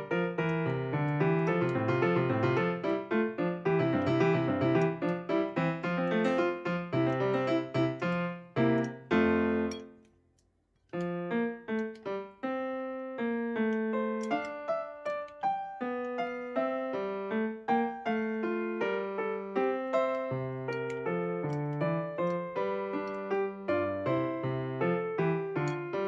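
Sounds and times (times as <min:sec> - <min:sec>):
piano music: 0:00.0 - 0:10.0, 0:10.9 - 0:26.0.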